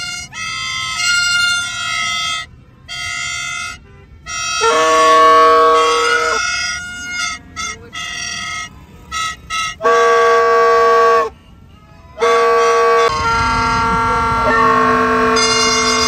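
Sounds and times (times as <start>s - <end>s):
lower-pitched horn: 0.0s - 11.4s, 12.1s - 16.0s
plastic toy trumpet blasts: 0.0s - 11.4s, 12.2s - 16.0s.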